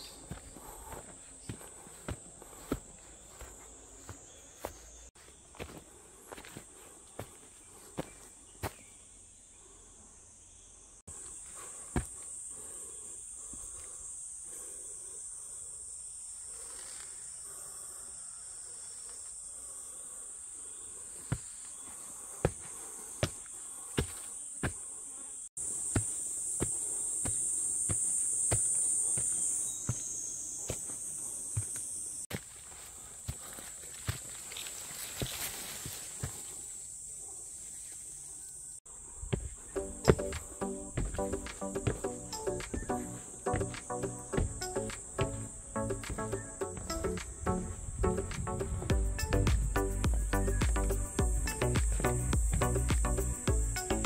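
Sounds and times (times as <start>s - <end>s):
footsteps on forest trail: 0.0s - 9.0s, 11.1s - 14.7s, 19.0s - 25.0s, 25.6s - 36.9s, 39.1s - 54.0s
insects chorus: 0.0s - 54.0s.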